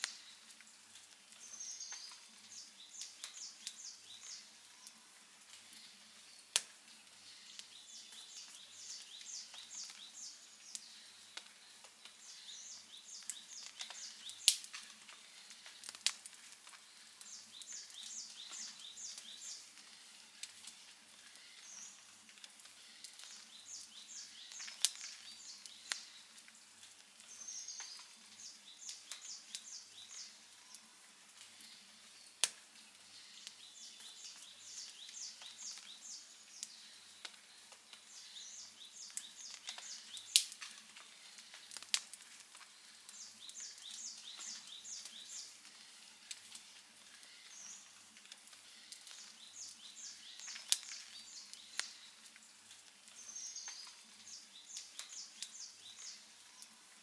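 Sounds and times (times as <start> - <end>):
campfire crackling: 0.0 - 57.0
bird chirping: 1.3 - 16.0, 16.7 - 22.1, 22.7 - 26.4, 27.2 - 30.9, 33.0 - 41.8, 42.6 - 48.0, 48.6 - 52.3, 53.1 - 56.8.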